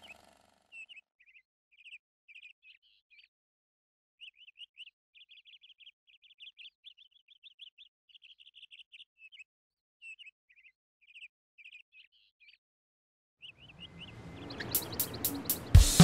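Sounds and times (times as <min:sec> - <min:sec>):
small bird chirping: 0:00.0 - 0:03.4, 0:04.2 - 0:12.7, 0:13.4 - 0:16.0.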